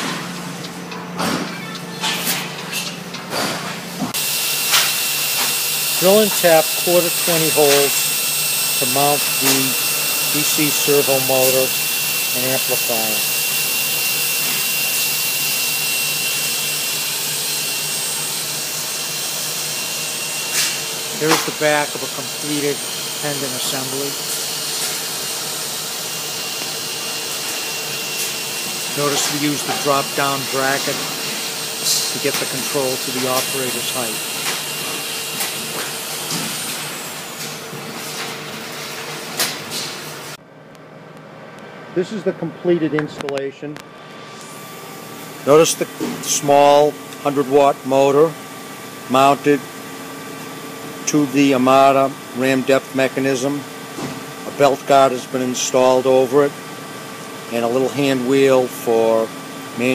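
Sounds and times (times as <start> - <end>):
machine running with hiss and whine: 0.0 - 40.4, 42.0 - 59.9.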